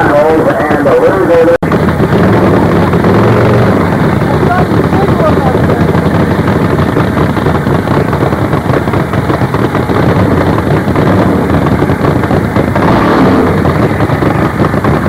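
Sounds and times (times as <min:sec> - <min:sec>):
drag bike engines firing: 0:00.0 - 0:15.0.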